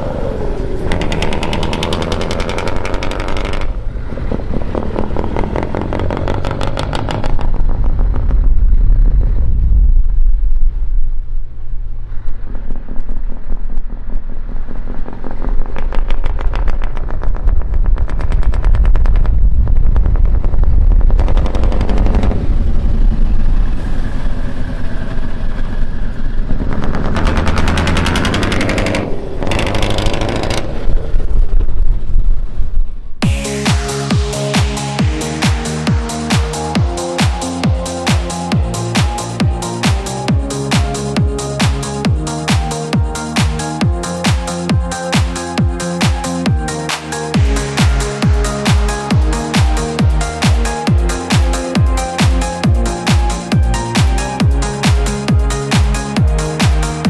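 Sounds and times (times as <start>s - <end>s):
truck engine staccato exhaust: 0.0s - 11.3s, 12.0s - 32.6s, 33.2s - 57.0s.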